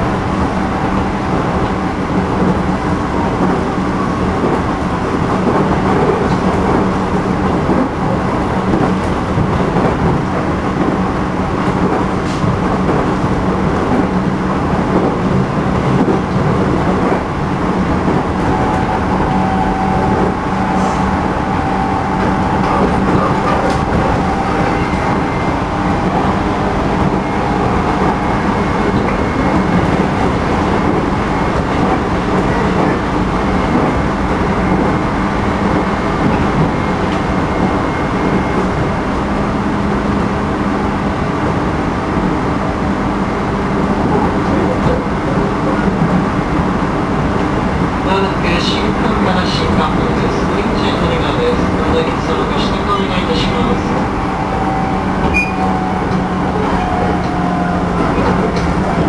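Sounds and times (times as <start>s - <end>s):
rail and wheel noise: 0.0s - 59.0s.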